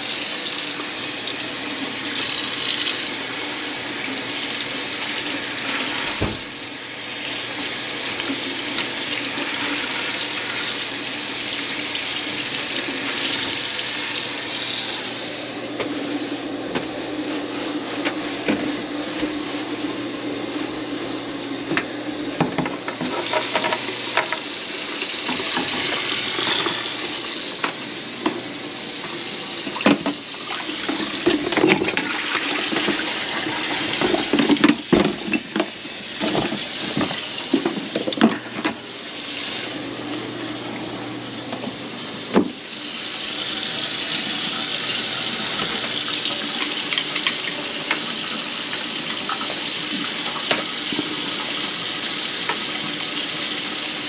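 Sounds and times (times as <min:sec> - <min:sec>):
faucet water running into sink: 0:00.0 - 0:15.5, 0:21.1 - 0:54.0.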